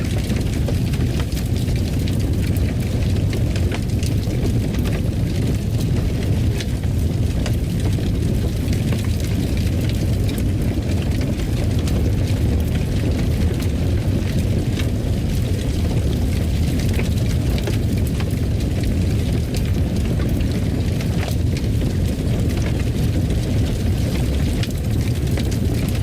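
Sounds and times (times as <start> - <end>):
fire crackles and pops: 0.0 - 26.0
fire low rumble: 0.0 - 26.0.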